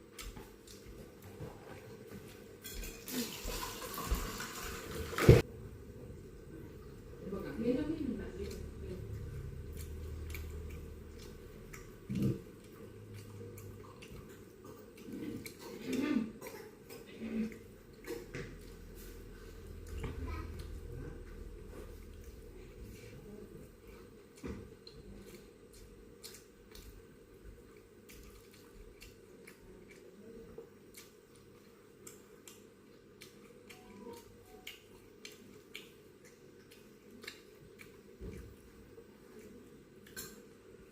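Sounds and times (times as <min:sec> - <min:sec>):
person chewing food: 0:00.0 - 0:02.6, 0:08.4 - 0:40.9
low steady hum: 0:00.0 - 0:40.9.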